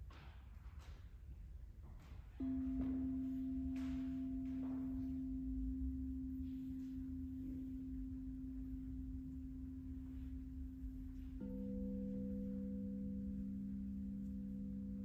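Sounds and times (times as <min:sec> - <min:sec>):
singing bowl ringing: 0:02.4 - 0:15.0.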